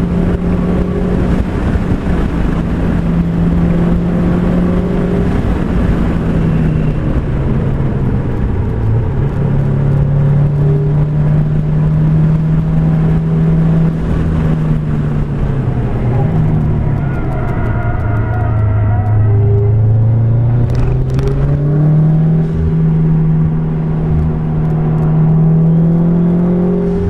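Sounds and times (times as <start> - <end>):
car engine: 0.0 - 27.0
tyre and wind noise: 0.0 - 27.0.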